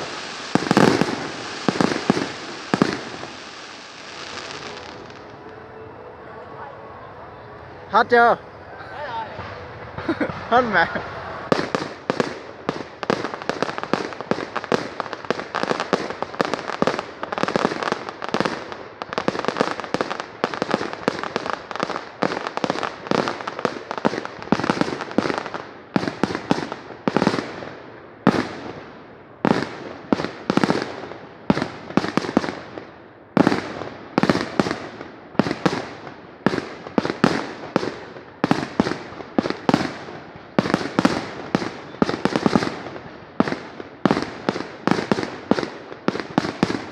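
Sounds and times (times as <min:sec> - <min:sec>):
booming firework bursts: 0:00.0 - 0:05.4, 0:09.3 - 0:46.9
fireworks bangs and crackling: 0:00.0 - 0:05.9, 0:09.1 - 0:46.9.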